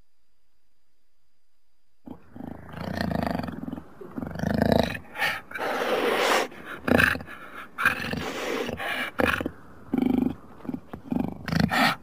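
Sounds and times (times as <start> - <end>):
jaguar growling and snarling: 2.1 - 12.0.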